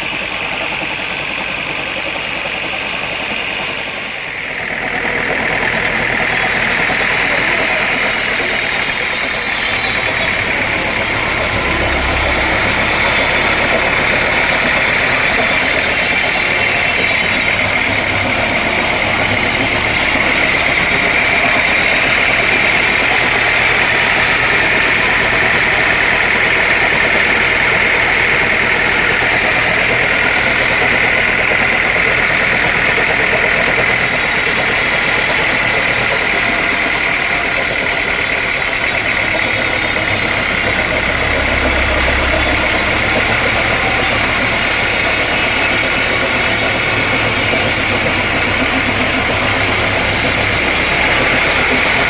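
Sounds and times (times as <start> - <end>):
sawmill machinery running: 0.0 - 52.0.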